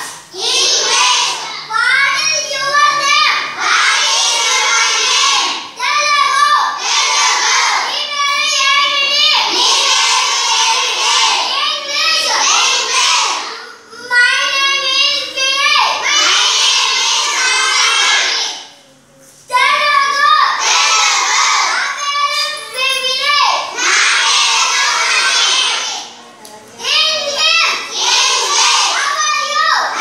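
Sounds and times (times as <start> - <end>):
children chanting together: 0.0 - 13.8, 14.7 - 18.8, 19.8 - 22.6, 23.5 - 26.2, 27.0 - 30.0.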